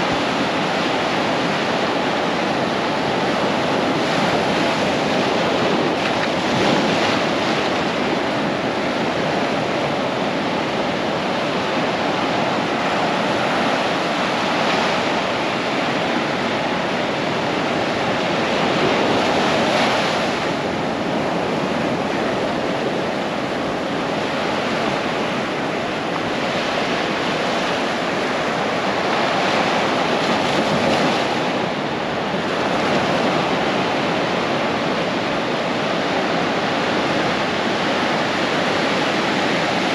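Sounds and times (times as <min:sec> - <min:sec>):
surf breaking on sand: 0:00.0 - 0:39.9.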